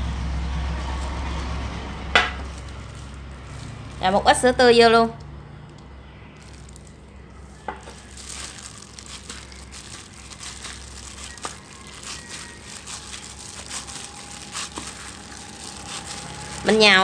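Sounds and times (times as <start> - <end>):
dough squishing: 0.7 - 4.7, 5.9 - 17.0
plastic gloves crinkling: 0.7 - 4.8, 5.6 - 17.0.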